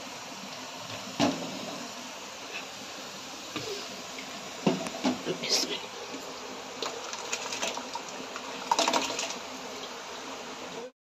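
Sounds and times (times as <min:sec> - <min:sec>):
water boiling hiss: 0:00.0 - 0:11.0.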